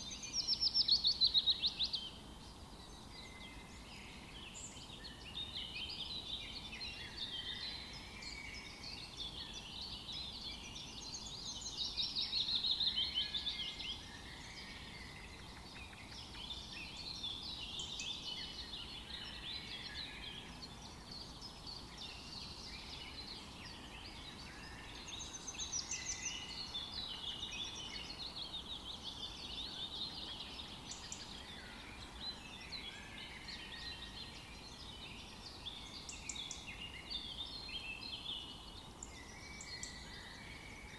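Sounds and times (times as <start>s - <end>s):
birds singing and chirping: 0.0s - 40.9s.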